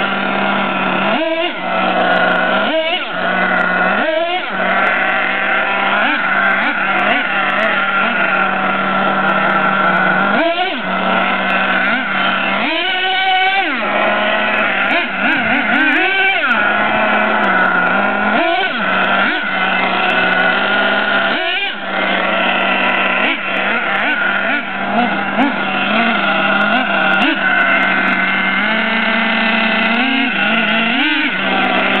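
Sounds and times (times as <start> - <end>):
model truck engine idling and revving: 0.0 - 32.0.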